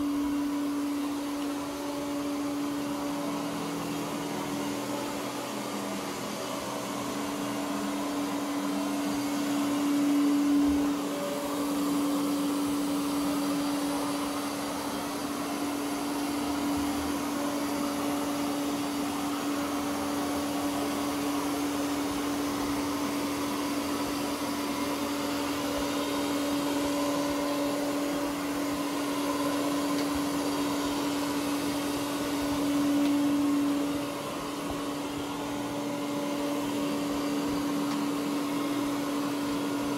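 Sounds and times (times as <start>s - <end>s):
robot vacuum motor hum: 0.0s - 39.9s.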